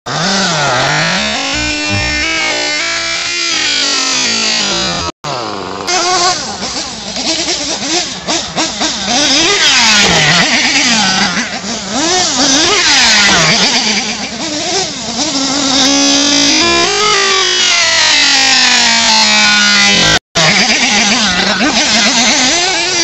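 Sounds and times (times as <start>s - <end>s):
small nitro engines revving: 0.1s - 23.0s.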